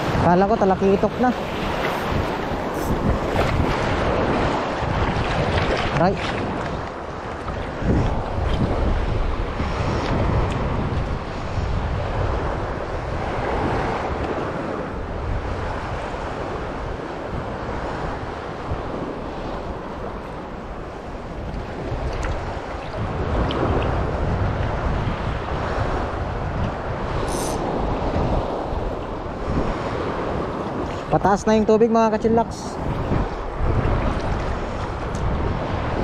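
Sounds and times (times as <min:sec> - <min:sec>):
sea waves washing in: 0:00.0 - 0:36.0
wind buffeting microphone: 0:00.0 - 0:36.0.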